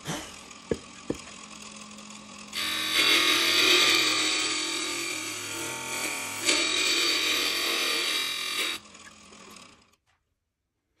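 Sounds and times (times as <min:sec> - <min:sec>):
wood shaving machine noise: 0:00.0 - 0:10.0.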